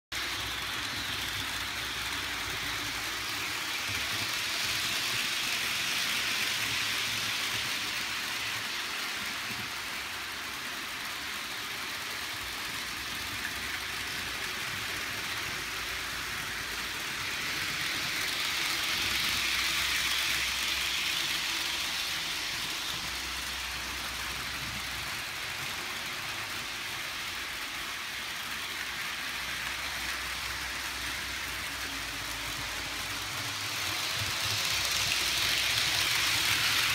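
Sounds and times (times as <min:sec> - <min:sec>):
metal wheels rolling on track: 0:00.2 - 0:36.9
model train motors whirring: 0:00.2 - 0:36.9.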